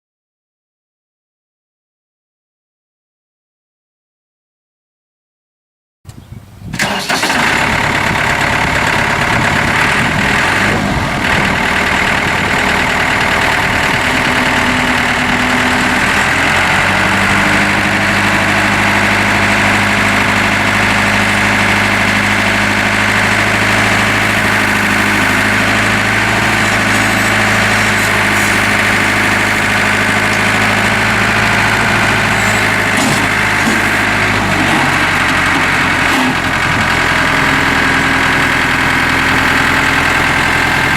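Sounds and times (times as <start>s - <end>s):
tractor diesel engine idling: 6.8s - 40.9s.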